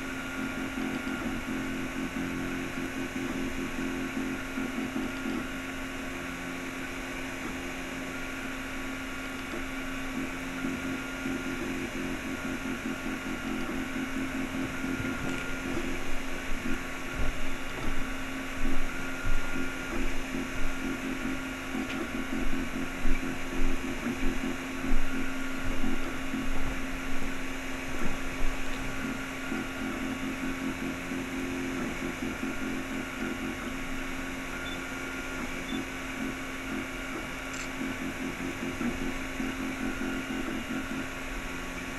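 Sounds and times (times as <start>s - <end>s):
cooling fan whirring: 0.0s - 41.9s
stepper motors whining: 0.0s - 41.9s.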